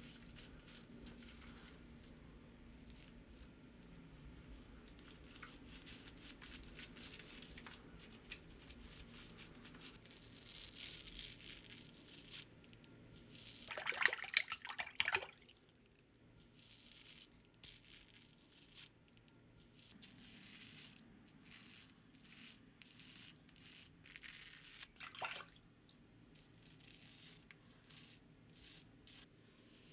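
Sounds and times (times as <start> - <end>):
low room hum: 0.0 - 29.9.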